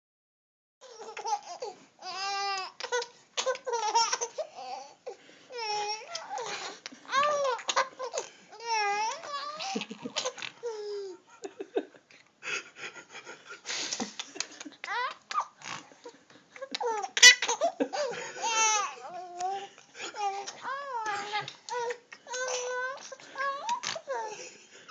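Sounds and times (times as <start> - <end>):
baby laughing: 0.8 - 4.9, 5.6 - 11.5, 14.2 - 24.9.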